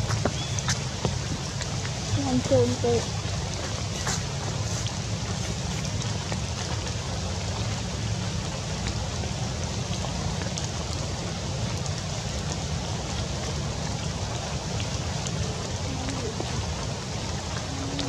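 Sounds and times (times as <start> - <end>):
rain falling through leaves: 0.0 - 18.0.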